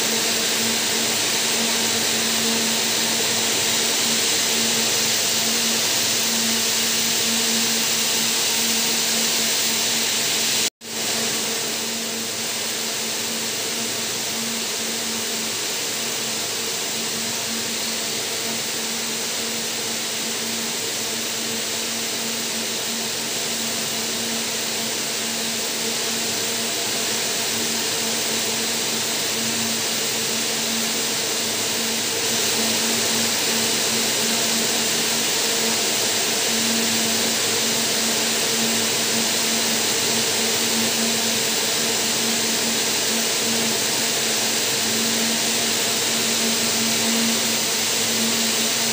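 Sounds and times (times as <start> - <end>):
yarn machines whirring: 0.0 - 48.9.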